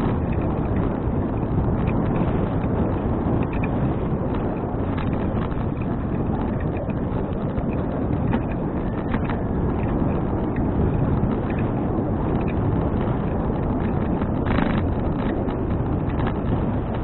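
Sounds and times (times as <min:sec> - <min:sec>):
bicycle clicks and rattles: 0:00.0 - 0:17.0
wind rushing over microphone: 0:00.0 - 0:17.0.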